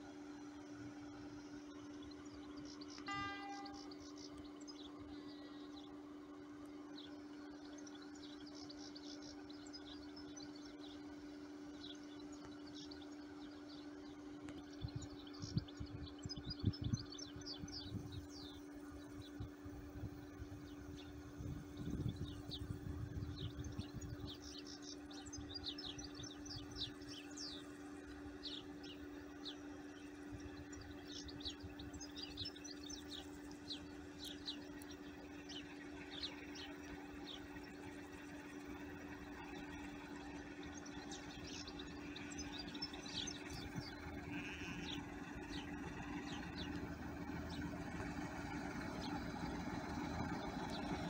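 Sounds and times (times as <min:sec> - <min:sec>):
faint steady hum: 0:00.0 - 0:51.0
small birds chirping: 0:01.3 - 0:06.0, 0:06.9 - 0:51.0.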